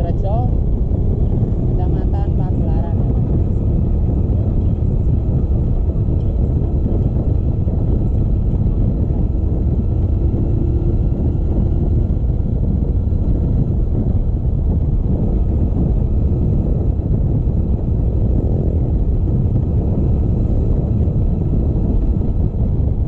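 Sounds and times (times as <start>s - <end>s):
motorcycle engine drone: 0.0s - 23.0s
wind rumble on microphone: 0.0s - 23.0s.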